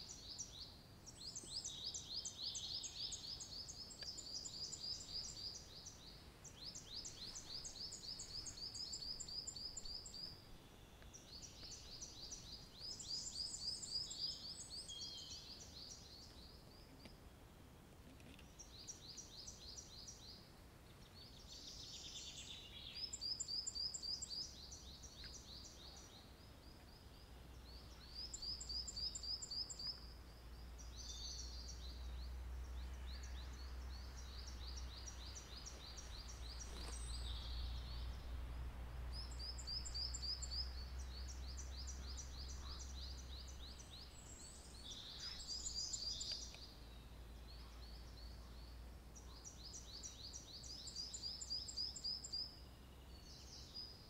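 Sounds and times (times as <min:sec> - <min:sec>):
small songbirds singing: 0:00.0 - 0:54.0.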